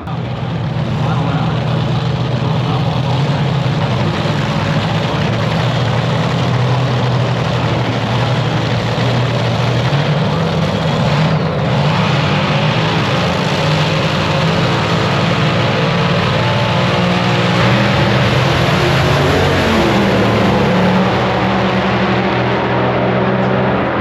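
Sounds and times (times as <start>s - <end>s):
steady engine-like rumble: 0.0s - 24.0s.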